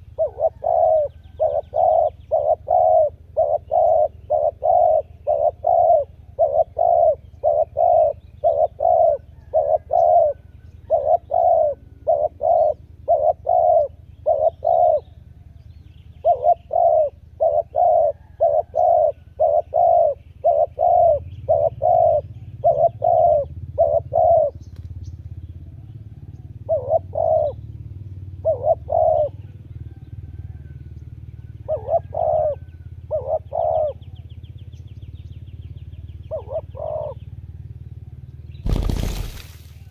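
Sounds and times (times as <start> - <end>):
dove cooing: 0.0 - 24.9, 25.7 - 34.4, 36.2 - 37.4
low engine hum: 0.0 - 39.9.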